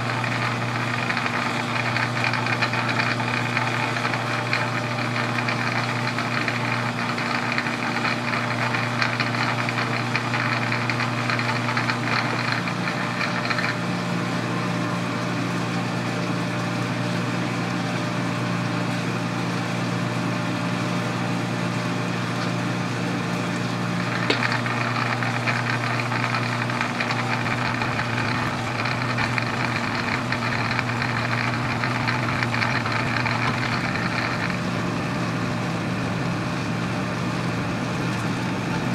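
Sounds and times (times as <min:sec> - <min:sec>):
metal lathe humming: 0:00.0 - 0:18.3, 0:21.9 - 0:38.9.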